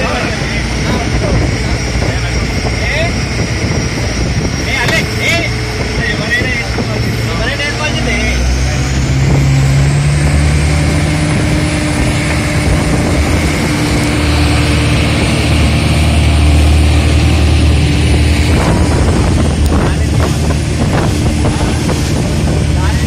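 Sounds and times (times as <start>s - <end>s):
rush of boat wake: 0.0s - 23.0s
speedboat engine running: 0.0s - 23.0s
wind buffeting microphone: 0.0s - 23.0s.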